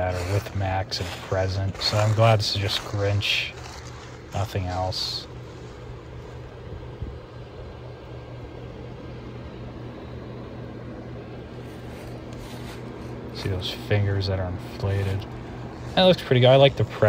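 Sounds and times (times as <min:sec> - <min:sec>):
blower fan humming: 0:00.0 - 0:17.0.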